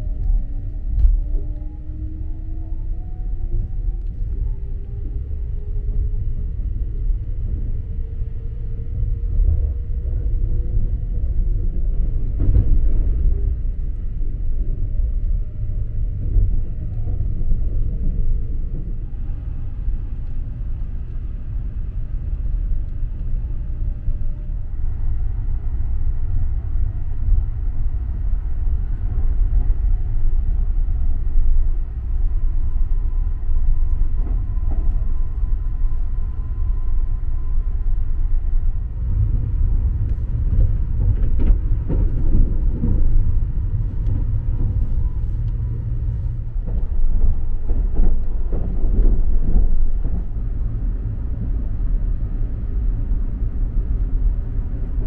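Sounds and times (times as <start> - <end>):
train running low rumble: 0.0 - 55.0.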